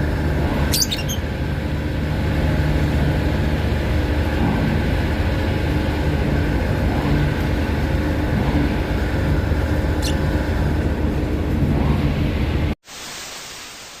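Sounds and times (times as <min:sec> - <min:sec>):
ferry engines droning: 0:00.0 - 0:12.8.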